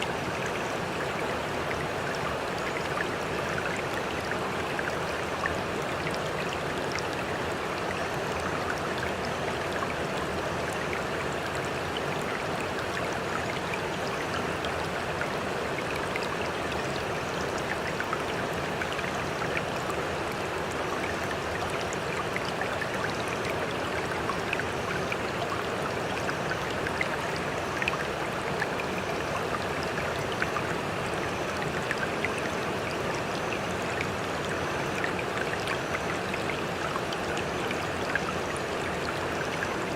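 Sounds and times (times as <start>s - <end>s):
rushing trickling water: 0.0s - 39.9s
water splashes and drips: 0.0s - 39.9s.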